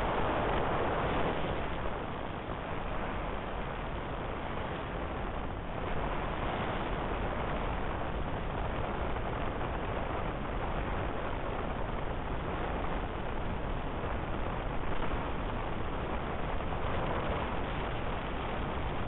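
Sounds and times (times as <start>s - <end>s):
rushing airflow in cockpit: 0.0s - 19.0s.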